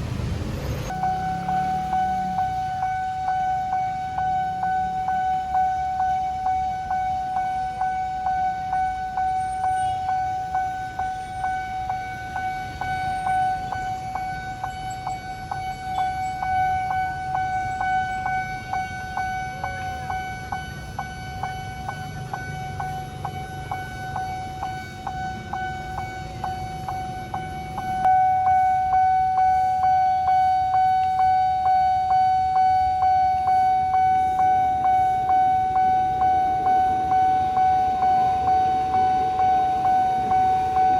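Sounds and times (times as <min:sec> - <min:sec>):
railroad crossing bell ringing: 0:00.7 - 0:40.9.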